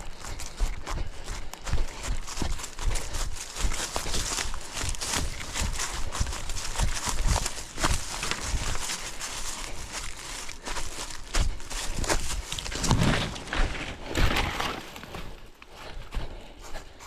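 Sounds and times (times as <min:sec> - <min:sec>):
footsteps on forest ground: 0:00.0 - 0:17.0.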